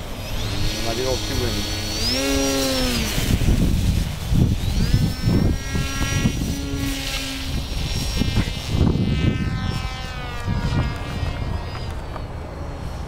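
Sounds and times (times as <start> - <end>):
model plane motor whining: 0.0 - 13.0
wind buffeting microphone: 0.0 - 13.0.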